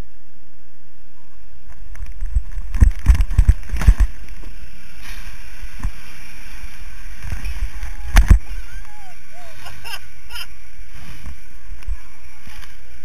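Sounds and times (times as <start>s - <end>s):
muffled water slide rumble: 1.1s - 13.0s.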